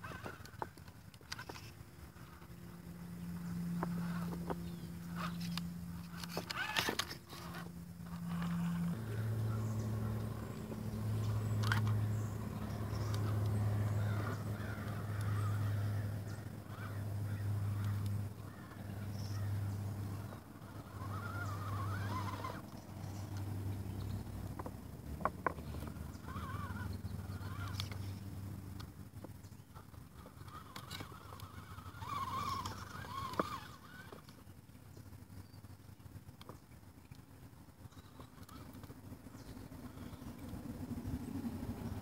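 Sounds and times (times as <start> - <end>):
electric motor whining: 0.0 - 28.9, 29.7 - 34.4.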